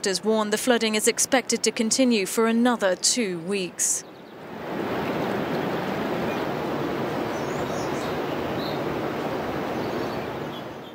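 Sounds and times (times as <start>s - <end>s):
rushing outdoor ambient noise: 0.0s - 10.9s.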